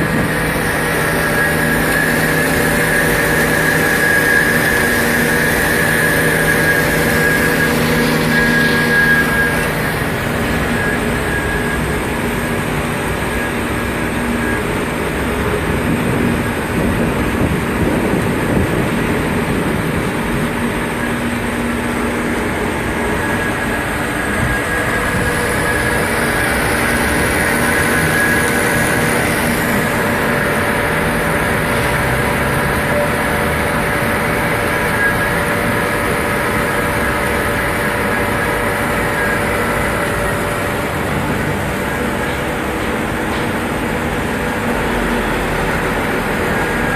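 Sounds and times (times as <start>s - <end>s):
band saw machine hum: 0.0s - 46.9s.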